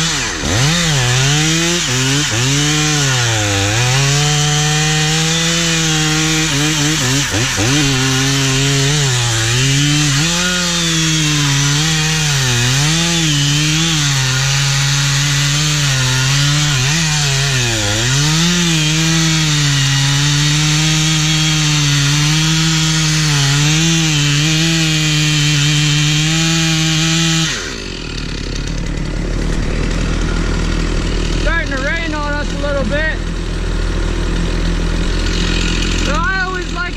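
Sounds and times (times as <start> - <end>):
chainsaw cutting into wood: 0.0 - 36.9.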